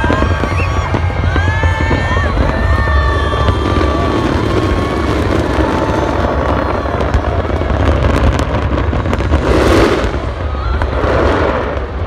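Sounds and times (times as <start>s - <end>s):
fireworks crackling: 0.0s - 12.0s
rumble of fireworks booms: 0.0s - 12.0s.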